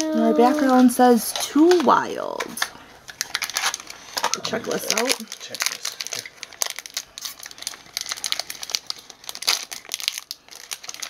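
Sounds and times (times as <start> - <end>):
plastic wrapper crumpling: 0.0 - 11.0.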